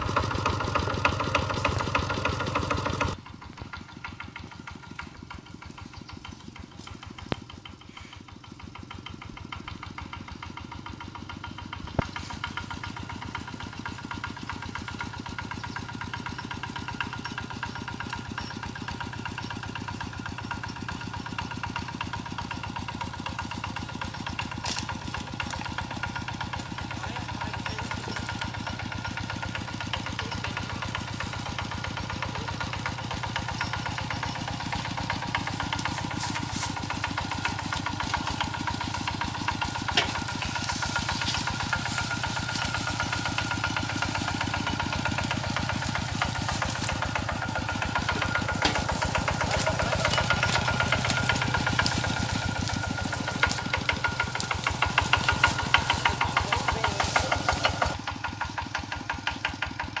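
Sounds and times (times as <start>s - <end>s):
diesel engine chugging: 0.0s - 60.0s.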